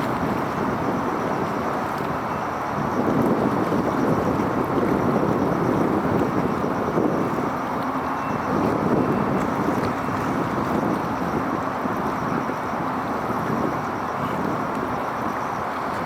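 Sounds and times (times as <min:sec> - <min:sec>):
wind on microphone: 0:00.0 - 0:07.6, 0:08.3 - 0:15.0.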